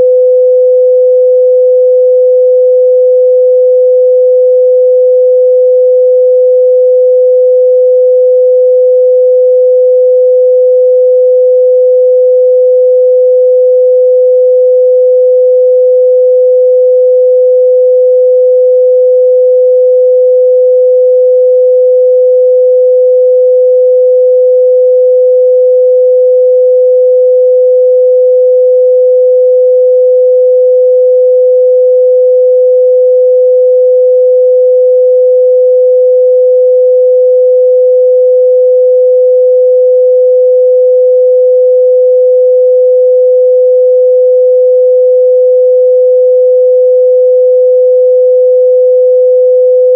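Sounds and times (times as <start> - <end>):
sine wave test tone: 0.0 - 49.9.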